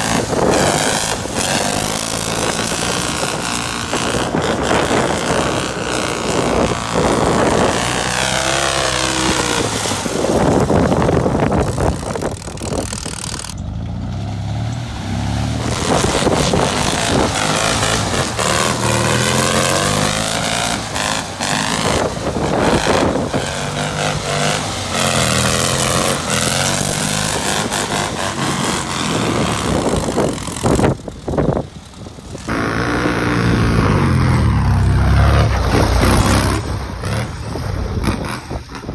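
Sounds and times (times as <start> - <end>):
engine revving: 0.0 - 38.9
road and wind noise: 0.0 - 38.9.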